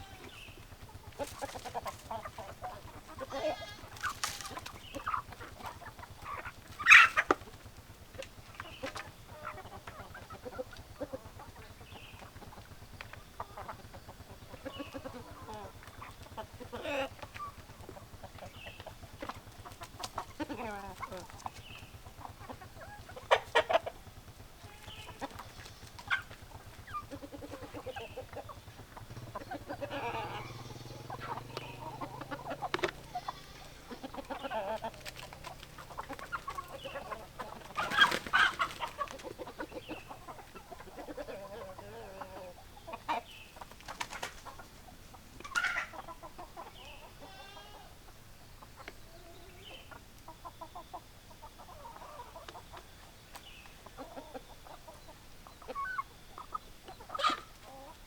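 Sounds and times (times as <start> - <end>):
sharp chicken calls: 0.0 - 7.5, 8.2 - 58.0
chickens clucking: 0.0 - 58.0.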